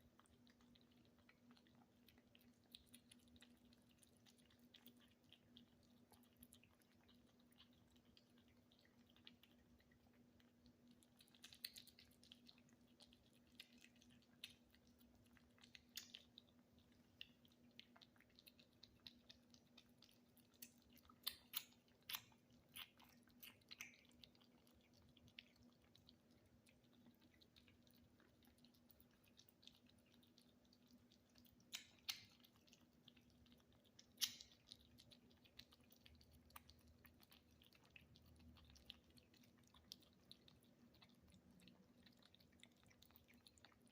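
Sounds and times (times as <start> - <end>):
kittens chewing and smacking: 0.0 - 43.9.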